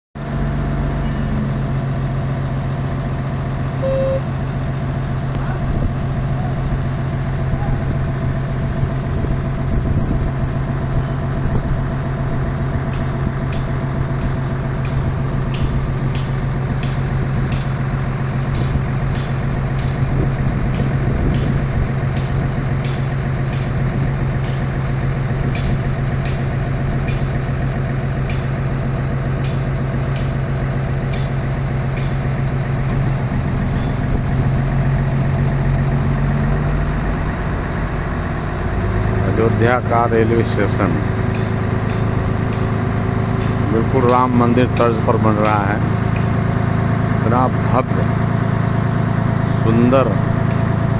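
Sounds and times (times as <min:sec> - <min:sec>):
engine idling: 0:00.1 - 0:50.9.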